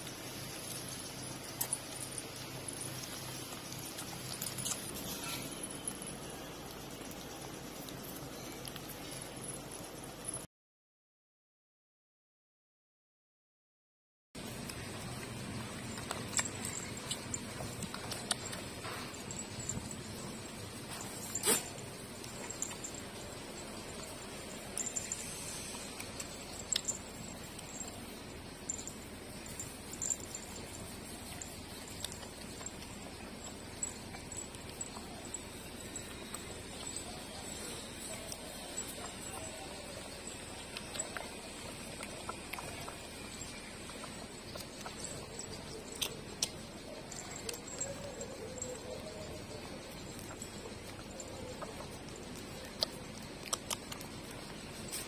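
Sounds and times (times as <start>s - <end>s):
small clicks and rustling: 0.0s - 10.0s, 14.6s - 55.0s
puppies nursing: 0.0s - 10.4s, 14.4s - 55.0s.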